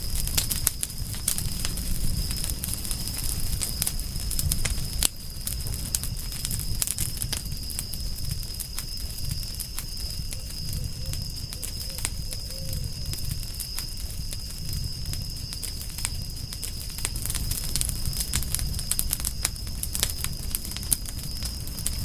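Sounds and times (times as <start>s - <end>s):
low rumble of burning: 0.0s - 22.0s
wood fire crackling and popping: 0.0s - 22.0s.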